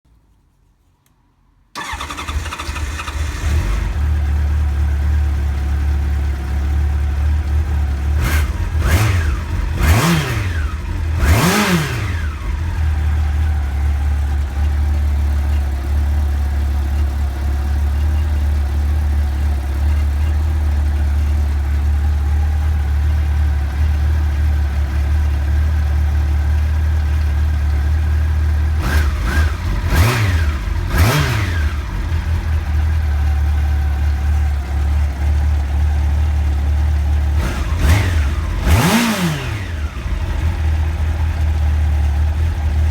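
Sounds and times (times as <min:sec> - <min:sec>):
motorcycle engine starting and idling: 0:01.7 - 0:42.9.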